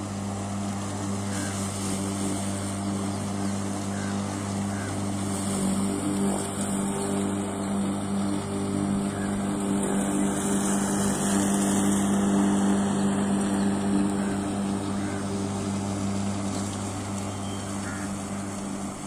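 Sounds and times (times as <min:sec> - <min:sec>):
electric lawn mower running: 0:00.0 - 0:19.0.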